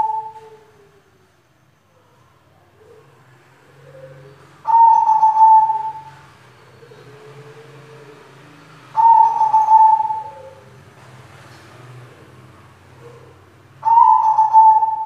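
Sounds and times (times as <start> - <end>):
dove cooing: 0.0 - 1.0, 2.7 - 11.1, 12.0 - 15.0.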